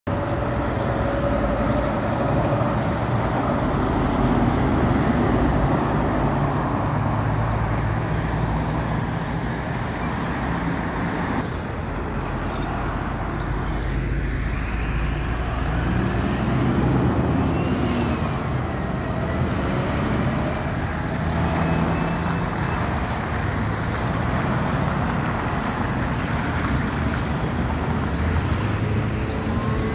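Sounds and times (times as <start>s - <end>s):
diesel truck engine: 0.1s - 29.9s
passing cars: 0.1s - 29.9s.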